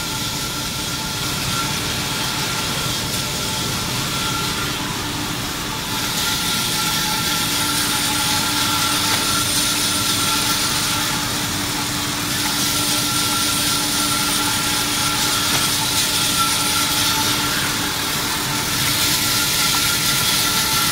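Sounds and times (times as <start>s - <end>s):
band saw running: 0.0s - 20.9s.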